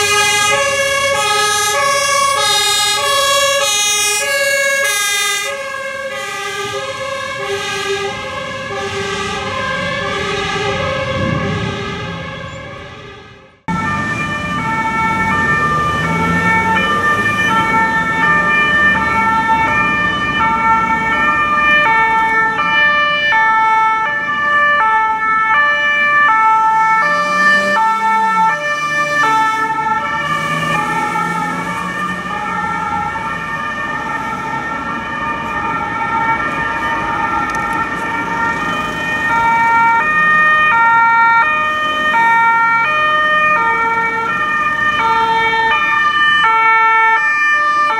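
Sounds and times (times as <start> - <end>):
two-tone sirens: 0.0 - 47.9
vehicle engines and tyres rumbling: 0.0 - 47.9.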